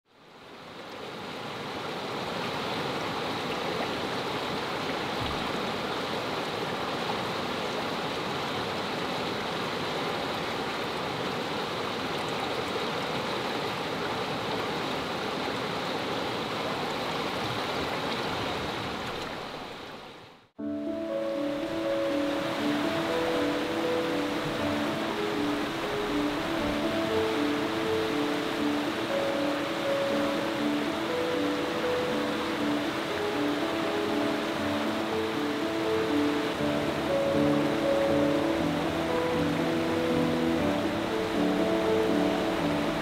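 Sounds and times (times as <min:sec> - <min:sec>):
stream rushing over rocks: 0:00.1 - 0:43.0.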